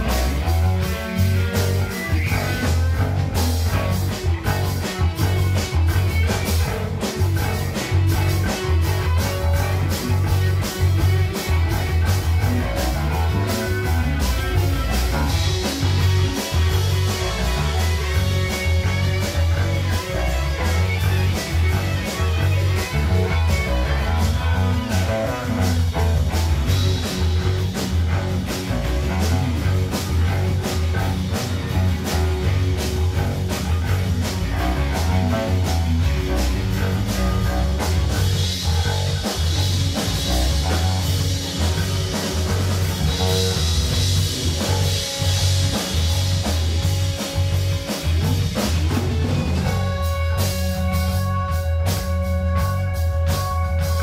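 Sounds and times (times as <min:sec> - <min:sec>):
drum kit: 0:00.0 - 0:54.0
electric guitars: 0:00.0 - 0:54.0
heavy bass: 0:00.0 - 0:54.0
keyboard: 0:00.0 - 0:54.0.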